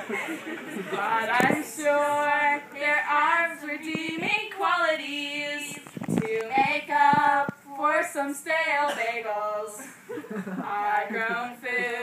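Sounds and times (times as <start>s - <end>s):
women singing: 0.8s - 9.9s, 10.6s - 12.0s.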